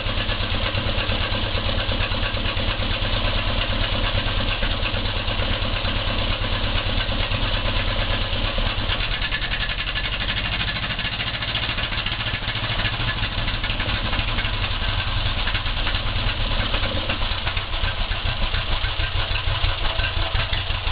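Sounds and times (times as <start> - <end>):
boat engine idling: 0.0 - 20.9.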